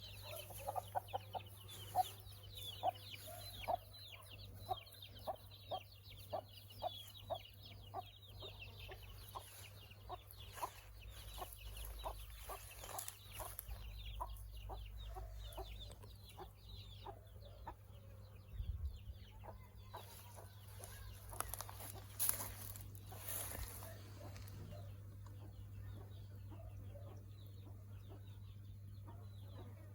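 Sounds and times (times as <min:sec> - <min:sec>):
low cluck-like bird calls: 0:00.0 - 0:29.9.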